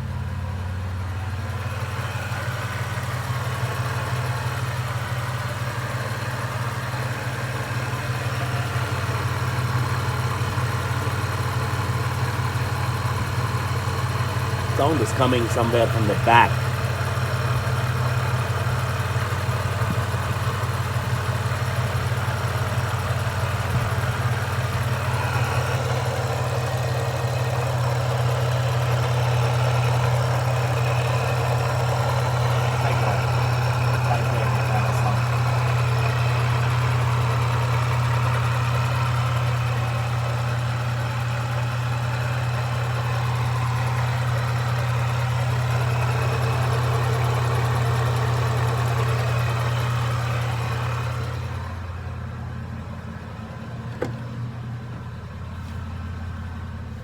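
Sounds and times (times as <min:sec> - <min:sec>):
car engine idling: 0:00.0 - 0:57.0
engine ticking: 0:00.0 - 0:57.0.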